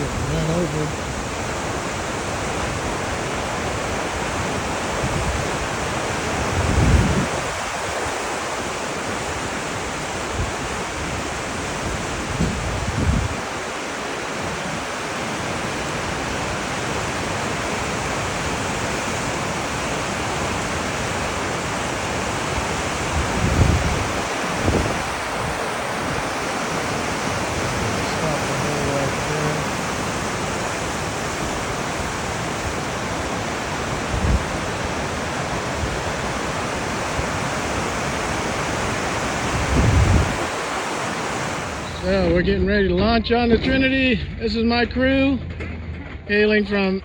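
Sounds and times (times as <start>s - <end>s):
whitewater rushing: 0.0s - 42.3s.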